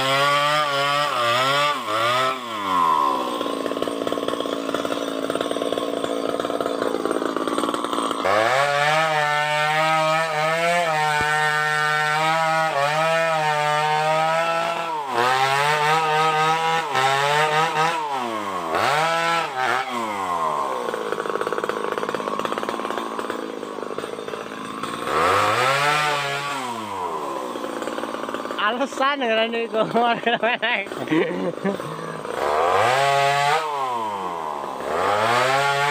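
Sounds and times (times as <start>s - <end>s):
chainsaw revving: 0.0s - 35.9s.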